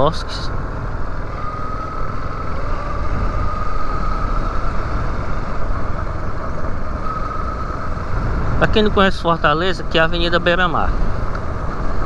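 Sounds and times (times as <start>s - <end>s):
faint steady whine: 0.0s - 12.0s
motorcycle running at low speed: 0.0s - 12.0s
wind rumble on microphone: 0.2s - 12.0s.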